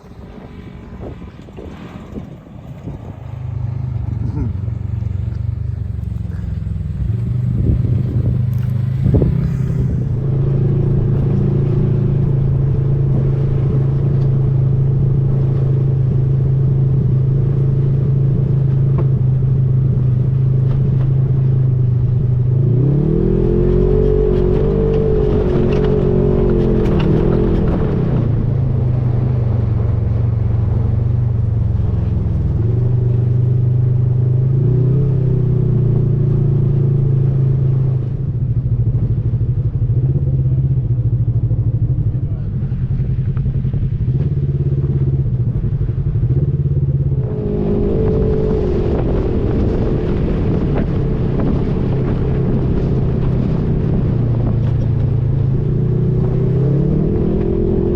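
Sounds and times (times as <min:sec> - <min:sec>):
off-road vehicle engine: 0:00.0 - 0:57.9.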